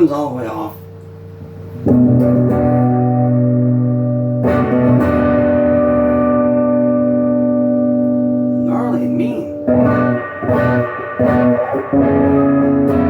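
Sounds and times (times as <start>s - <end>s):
overdriven electric guitar chords: 1.0s - 13.0s.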